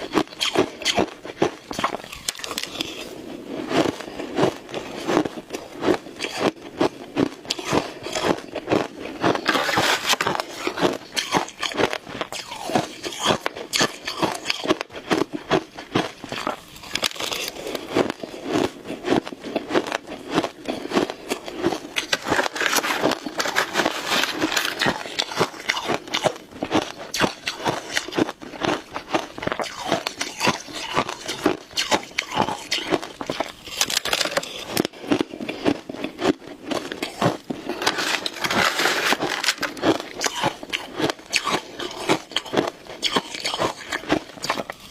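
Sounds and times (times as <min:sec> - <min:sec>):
ice being chewed crunching: 0:00.0 - 0:44.9.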